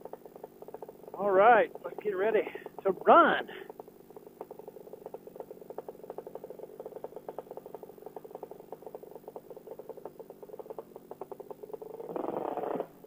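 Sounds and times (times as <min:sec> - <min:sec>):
paramotor engine idling: 0:00.0 - 0:13.0.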